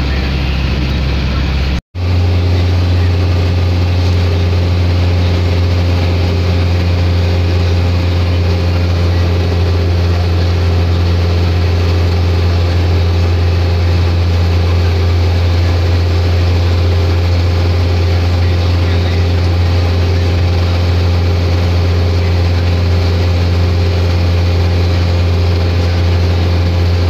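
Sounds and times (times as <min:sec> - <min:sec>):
deep hum: 0:00.0 - 0:27.0
minibus engine droning: 0:00.0 - 0:27.0
road noise: 0:00.0 - 0:27.0.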